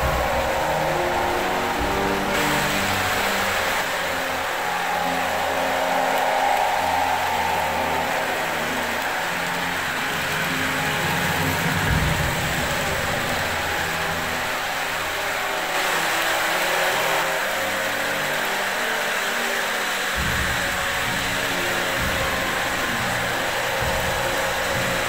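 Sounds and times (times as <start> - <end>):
diesel locomotive engine sound effect: 0.0 - 25.0
model train wheels rumbling: 0.0 - 25.0.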